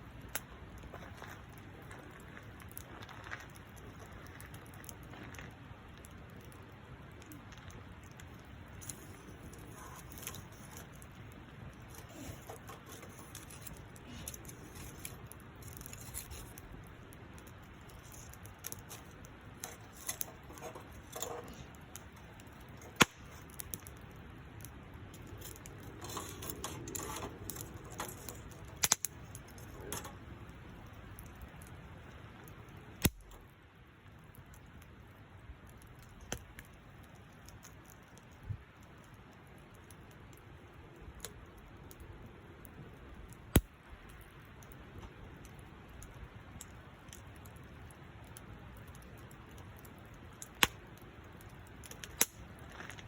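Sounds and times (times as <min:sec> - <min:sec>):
sharp fire pops: 0:00.0 - 0:42.0, 0:42.6 - 0:53.0
campfire crackling: 0:00.0 - 0:53.0.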